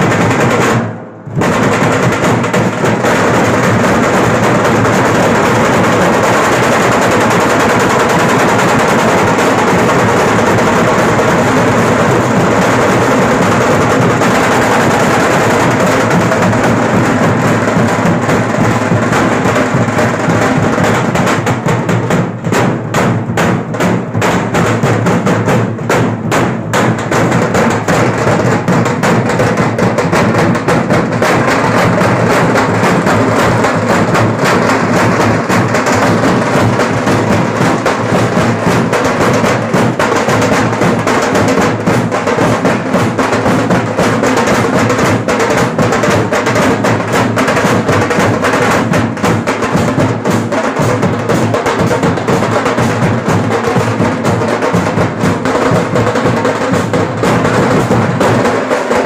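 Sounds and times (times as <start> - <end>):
barrel drums beaten with sticks: 0.0 - 59.0.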